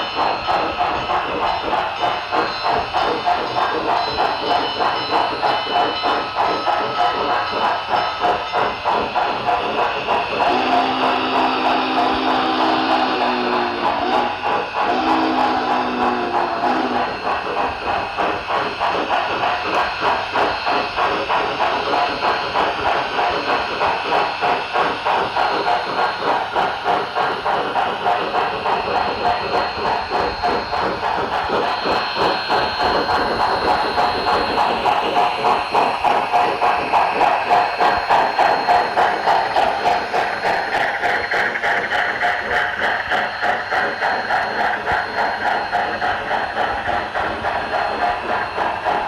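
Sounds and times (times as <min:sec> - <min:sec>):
model steam locomotive chuffs: 0:00.0 - 0:49.0.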